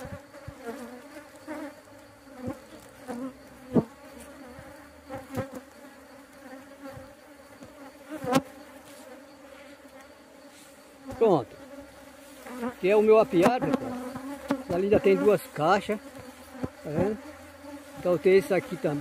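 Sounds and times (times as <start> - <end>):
bee buzzing past microphone: 0.0 - 19.0
bees humming around hive: 0.0 - 19.0.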